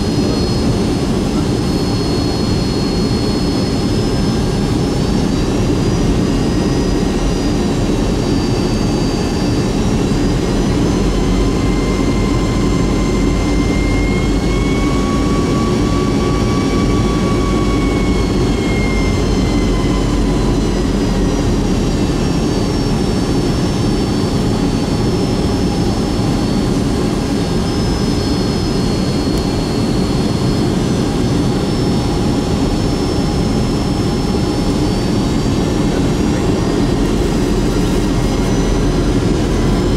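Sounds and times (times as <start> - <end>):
jet engines in aircraft cabin: 0.0 - 39.9.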